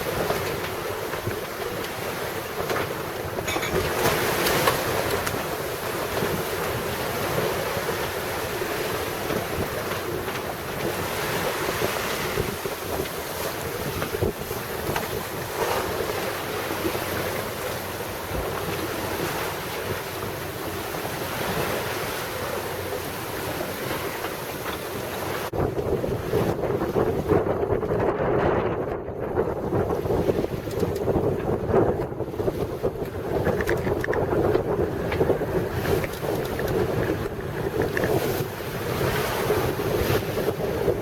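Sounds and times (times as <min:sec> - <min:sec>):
sea water sloshing around boat: 0:00.0 - 0:28.7, 0:29.3 - 0:41.0
wind buffeting microphone: 0:00.0 - 0:41.0.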